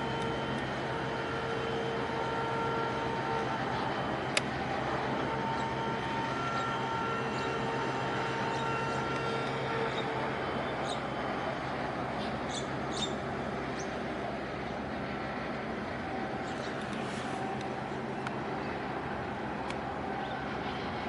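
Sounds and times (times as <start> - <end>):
ship engine drone: 0.0 - 21.0.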